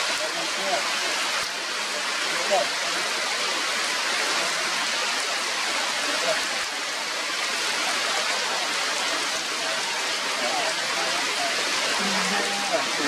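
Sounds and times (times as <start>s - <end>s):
rain falling on foliage: 0.0s - 13.0s.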